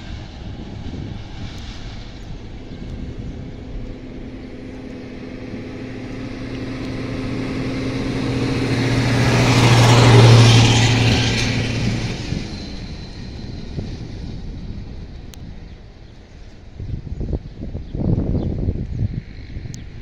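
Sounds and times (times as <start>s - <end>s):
locomotive humming: 0.0s - 17.8s
train rumbling on rails: 0.0s - 20.0s.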